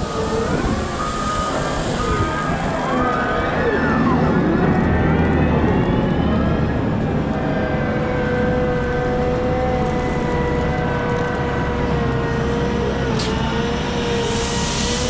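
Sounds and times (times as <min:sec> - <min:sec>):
wheel loader diesel drone and whine: 0:00.0 - 0:15.0.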